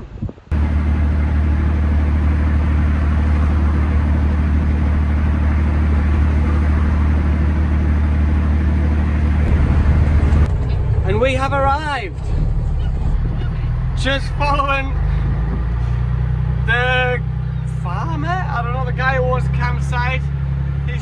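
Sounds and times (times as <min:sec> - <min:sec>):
vehicle engine and road drone: 0:00.0 - 0:21.0.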